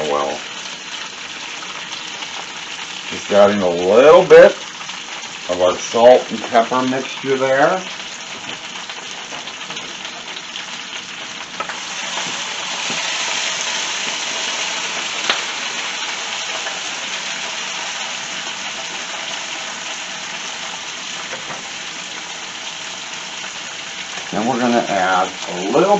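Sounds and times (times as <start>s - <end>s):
spinach sizzling in oil: 0.0s - 25.9s.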